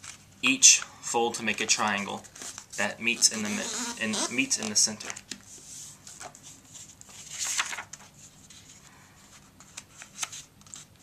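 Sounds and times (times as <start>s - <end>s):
paper rustling and folding: 1.4s - 11.0s.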